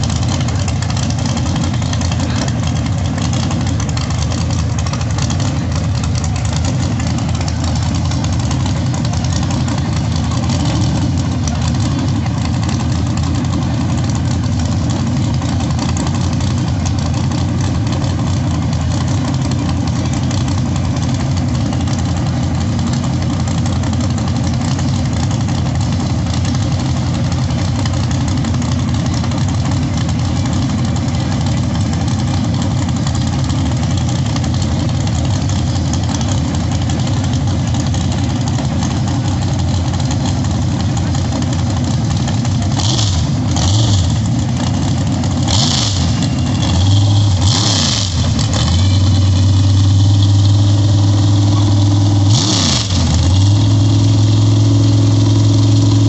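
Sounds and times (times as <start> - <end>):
race car engines idling: 0.0 - 56.0.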